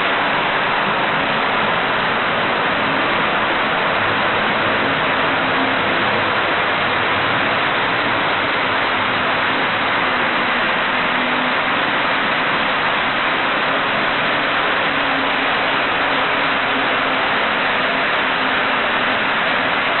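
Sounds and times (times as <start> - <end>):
model train wheels rumbling on rail: 0.0 - 20.0.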